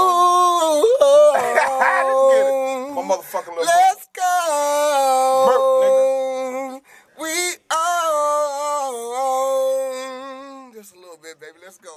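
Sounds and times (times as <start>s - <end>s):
man singing held notes: 0.0s - 11.0s.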